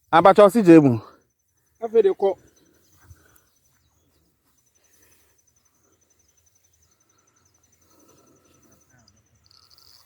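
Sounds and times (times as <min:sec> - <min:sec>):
faint insect chirping: 0:00.0 - 0:10.0.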